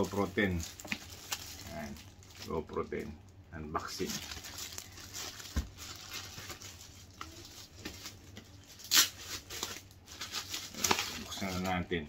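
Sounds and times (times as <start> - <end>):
plastic shrink-wrap crinkling: 0.0 - 3.1, 3.7 - 12.0.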